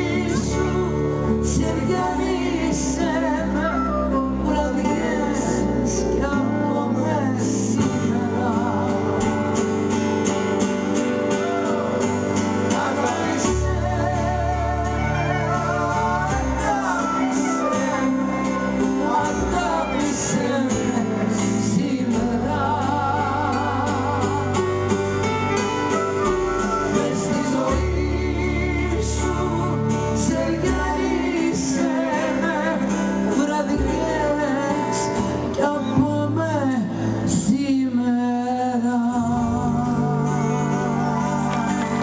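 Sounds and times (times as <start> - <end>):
woman singing with vibrato: 0.0 - 9.8, 12.5 - 42.0
small band with double bass: 0.0 - 42.0.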